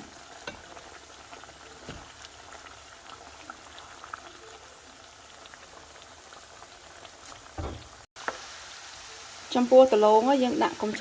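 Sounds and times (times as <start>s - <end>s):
food frying in bubbling oil: 0.0s - 11.0s.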